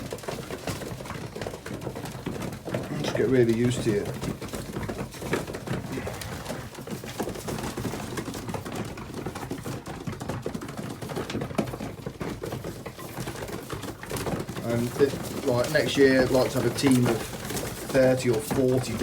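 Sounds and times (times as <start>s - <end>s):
pigeons pecking grain: 0.0s - 19.0s.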